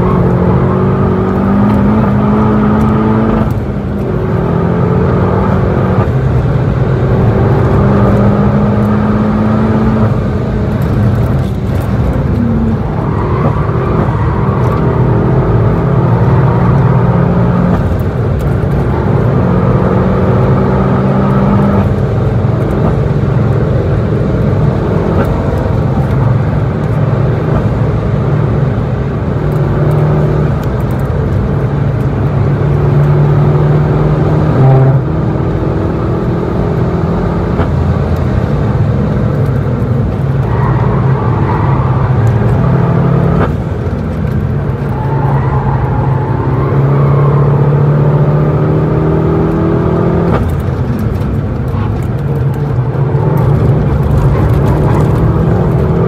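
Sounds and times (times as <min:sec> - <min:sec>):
car engine accelerating: 0:00.0 - 0:56.0
tyre and road noise: 0:00.0 - 0:56.0.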